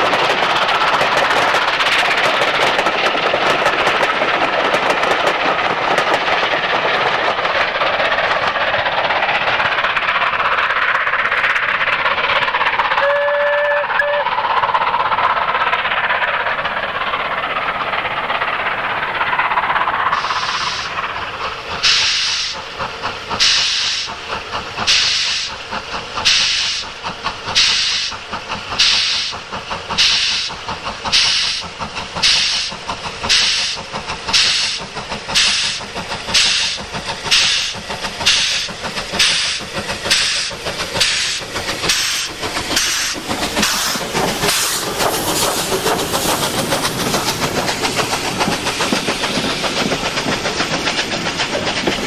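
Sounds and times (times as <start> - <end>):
steam hissing: 0.0 - 52.0
steam locomotive exhaust beats: 0.0 - 52.0
train rattling past: 0.0 - 52.0.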